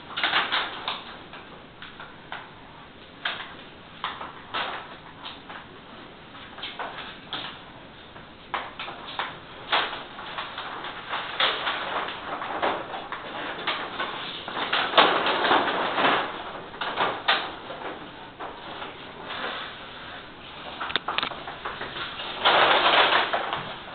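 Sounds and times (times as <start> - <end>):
whiteboard sheet rustling: 3.2 - 23.9.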